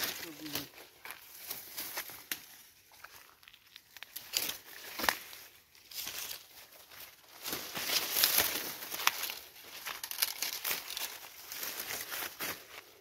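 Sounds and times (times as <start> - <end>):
dry corn leaves rustling: 0.0 - 13.0.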